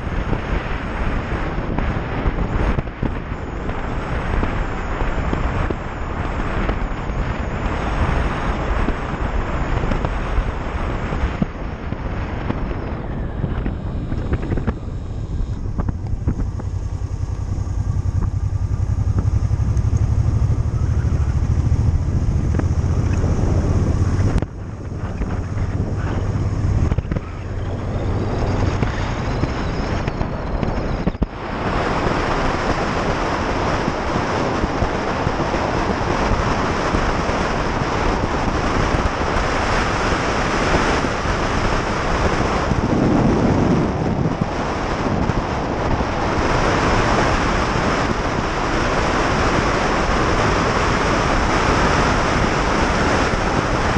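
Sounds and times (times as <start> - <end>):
motorcycle engine drone: 0.0 - 53.9
wind rushing over microphone: 0.0 - 53.9.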